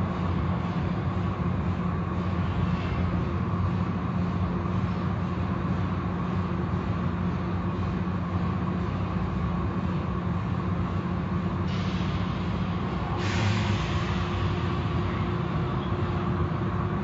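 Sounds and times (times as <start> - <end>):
car wash machinery hum: 0.0 - 17.0.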